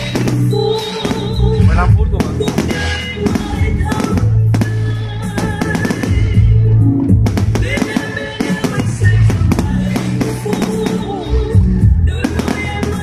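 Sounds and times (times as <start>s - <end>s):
fireworks bangs and crackles: 0.0s - 13.0s
music with bass line: 0.0s - 13.0s.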